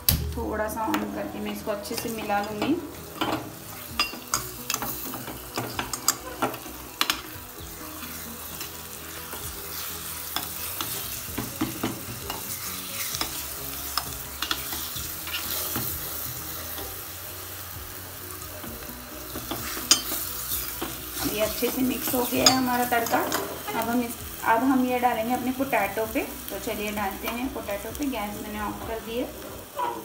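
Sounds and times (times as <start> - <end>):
spices sizzling in hot oil: 0.0 - 30.0.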